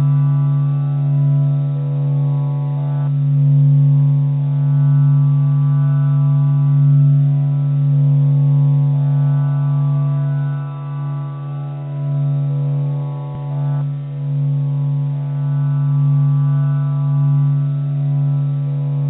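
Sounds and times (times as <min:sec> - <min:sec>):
low humming drone: 0:00.0 - 0:19.0.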